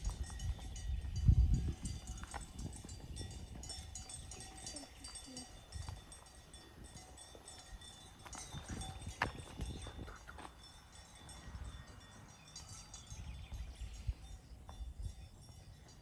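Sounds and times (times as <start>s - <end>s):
cowbells clanking: 0.0s - 16.0s.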